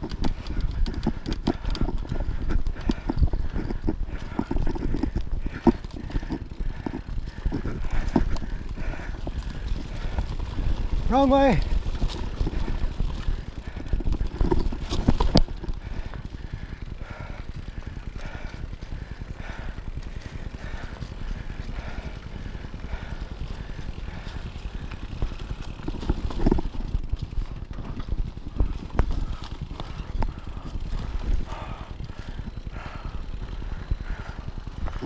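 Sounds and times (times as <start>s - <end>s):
bike knocks and rattles: 0.0s - 35.0s
tyres rumbling on dirt: 0.0s - 35.0s
wind buffeting microphone: 0.0s - 35.0s.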